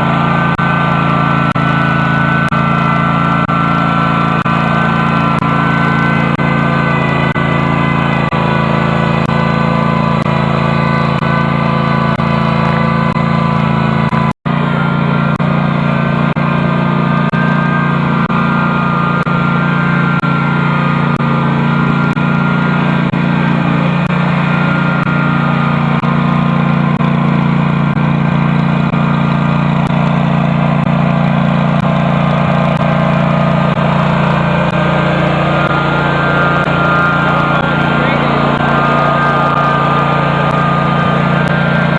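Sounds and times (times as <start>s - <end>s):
garden tractor engine running: 0.0s - 41.9s.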